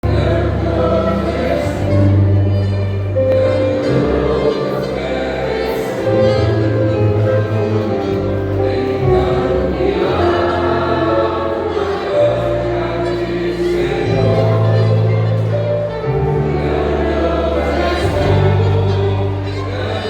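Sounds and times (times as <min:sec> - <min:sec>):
bass accompaniment: 0:00.0 - 0:20.0
vocal group singing in harmony: 0:00.0 - 0:20.0.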